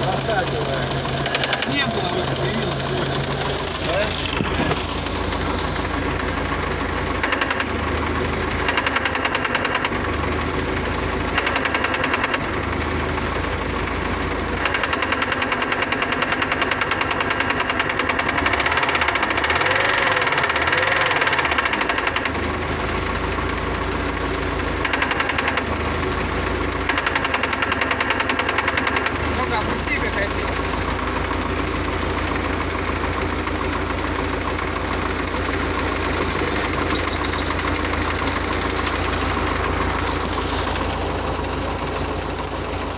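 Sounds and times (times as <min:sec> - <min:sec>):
diesel engine running: 0:00.0 - 0:42.9
rhythmic engine knock: 0:00.0 - 0:42.9.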